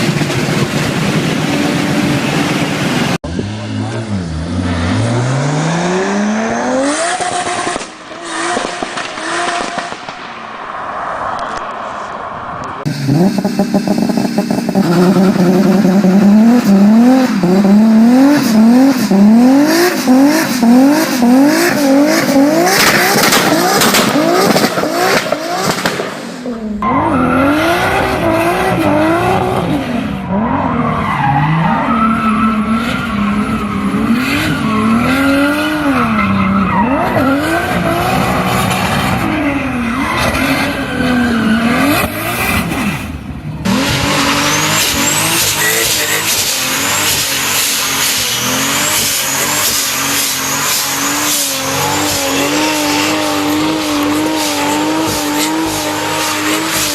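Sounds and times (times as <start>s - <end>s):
car engine revving hard: 0.0s - 10.0s, 12.8s - 56.9s.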